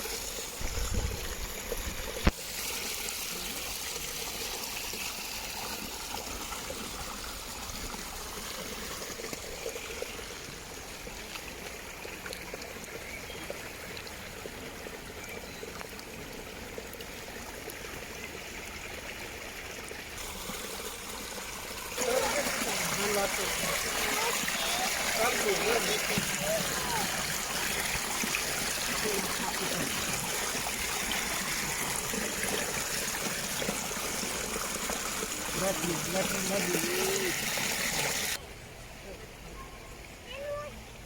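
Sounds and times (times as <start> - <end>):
stream water trickling: 0.0 - 41.0.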